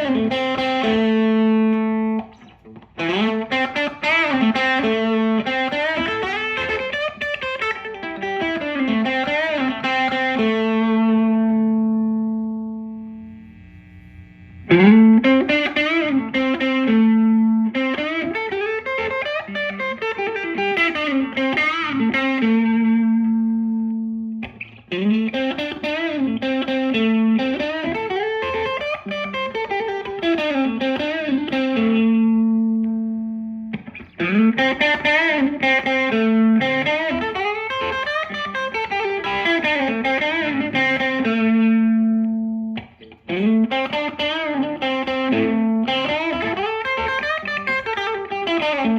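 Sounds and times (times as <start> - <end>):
overdriven electric guitar lead: 0.0 - 48.9.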